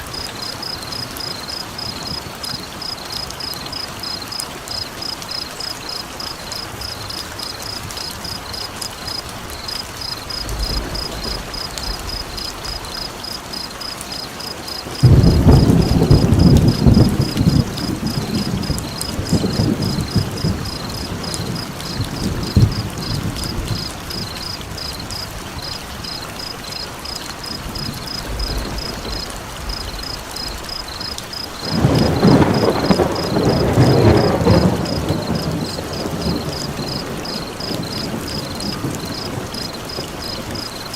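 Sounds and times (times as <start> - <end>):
rain: 0.0 - 40.9
thunder rumbling: 5.9 - 14.0, 14.8 - 26.2, 27.4 - 40.9.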